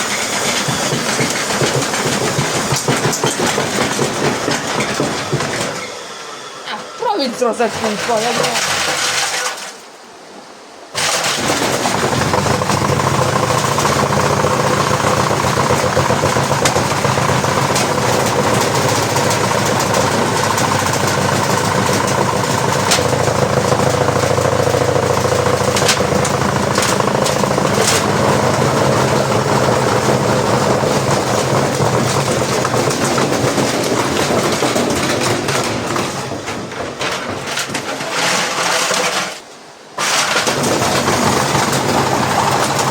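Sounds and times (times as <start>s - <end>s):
brick rattling and banging in drum: 0.0s - 5.8s, 11.0s - 39.4s, 40.0s - 42.9s
washing machine motor whine: 0.0s - 10.0s, 11.0s - 42.9s.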